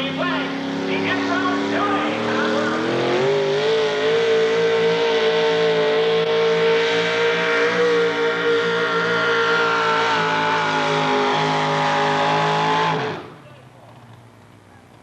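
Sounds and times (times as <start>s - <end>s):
truck engine at full throttle: 0.0s - 15.0s.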